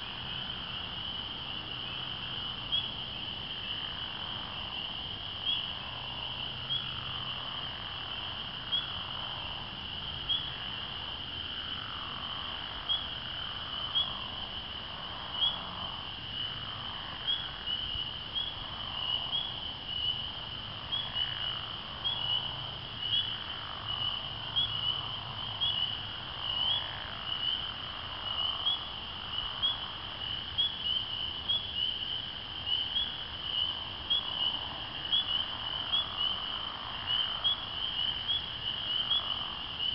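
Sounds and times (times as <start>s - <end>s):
chorus of peeping frogs: 0.0s - 39.9s
lower frog calls sweeping downward: 0.0s - 39.9s.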